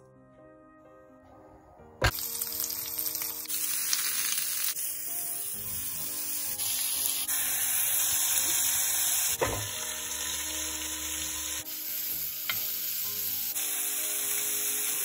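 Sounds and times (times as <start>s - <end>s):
soft background music: 0.0s - 15.0s
food sizzling in grill pan: 2.1s - 15.0s.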